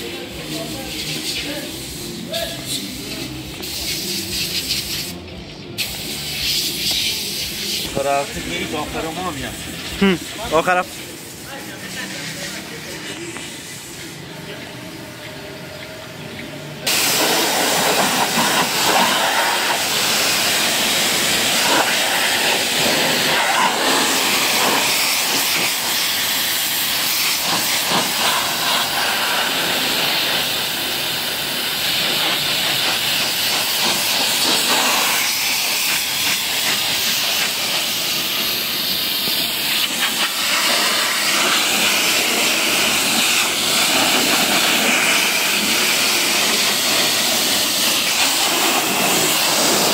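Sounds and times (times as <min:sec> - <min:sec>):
pressure washer spraying: 0:00.0 - 0:14.3, 0:16.8 - 0:49.9.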